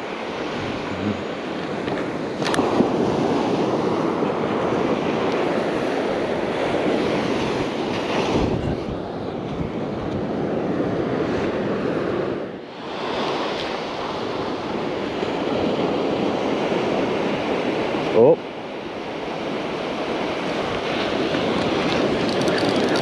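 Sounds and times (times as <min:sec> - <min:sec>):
wind buffeting microphone: 0:00.0 - 0:18.1, 0:18.9 - 0:23.0
ocean surf breaking: 0:00.0 - 0:23.0.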